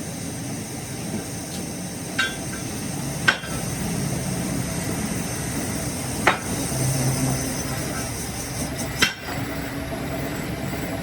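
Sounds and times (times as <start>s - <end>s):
workshop machine hum: 0.0s - 11.0s.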